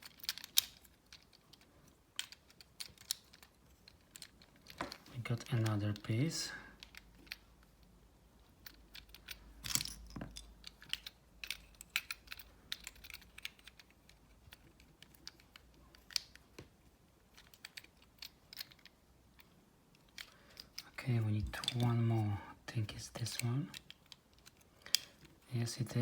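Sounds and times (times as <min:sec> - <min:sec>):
plastic puzzle pieces clicking: 0:00.0 - 0:06.1, 0:06.8 - 0:07.9, 0:08.5 - 0:21.9, 0:23.2 - 0:25.4.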